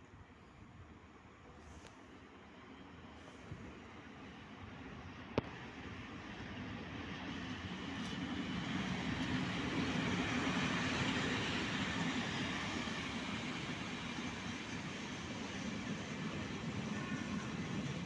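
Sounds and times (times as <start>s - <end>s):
train rumble and rail noise: 0.0s - 18.0s.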